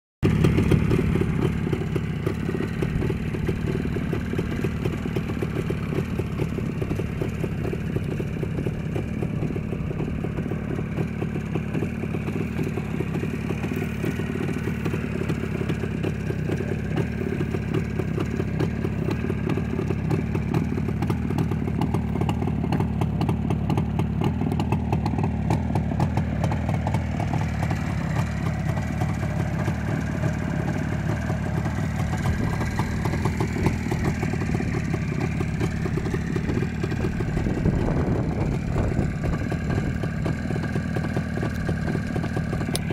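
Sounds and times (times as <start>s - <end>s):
motorcycle engine idling: 0.2s - 42.9s.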